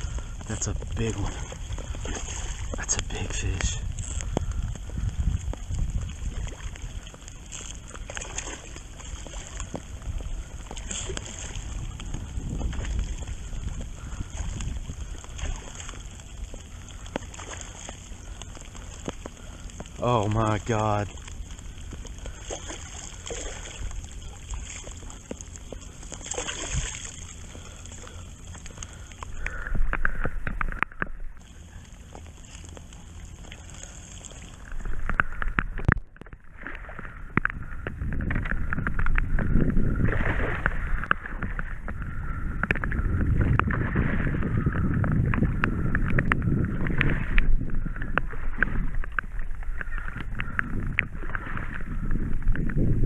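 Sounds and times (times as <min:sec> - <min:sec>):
wind on microphone: 0:00.0 - 0:33.0, 0:33.6 - 0:53.0
water sloshing and splashing: 0:00.0 - 0:53.0.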